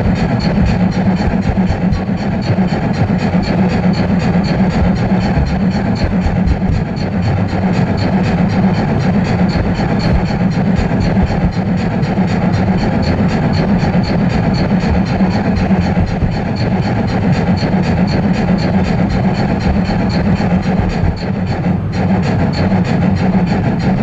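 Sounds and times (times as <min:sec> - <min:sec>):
light regular ticking: 0:00.0 - 0:24.0
model train wheels humming: 0:00.0 - 0:24.0.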